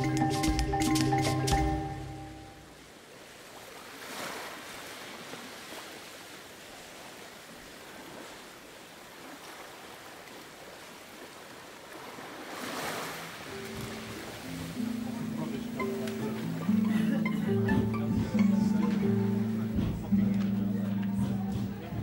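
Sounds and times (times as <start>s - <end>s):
ocean surf: 0.0s - 22.0s.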